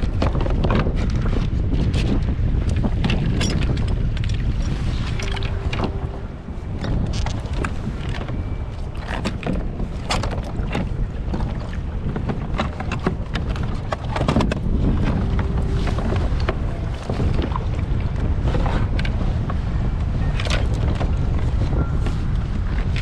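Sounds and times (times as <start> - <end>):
boat motor rumbling: 0.0 - 23.0
wind buffeting microphone: 0.0 - 23.0.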